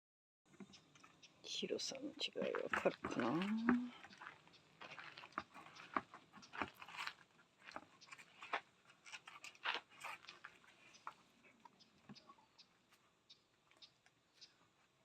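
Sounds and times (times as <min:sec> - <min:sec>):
puppies chewing clicks and crunches: 0:02.3 - 0:14.9.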